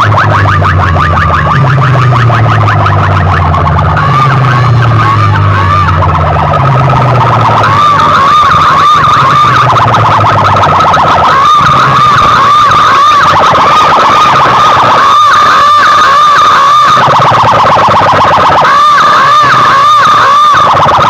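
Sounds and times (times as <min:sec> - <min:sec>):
heavy deep bass: 0:00.0 - 0:18.6
siren-like electronic music: 0:00.0 - 0:21.0.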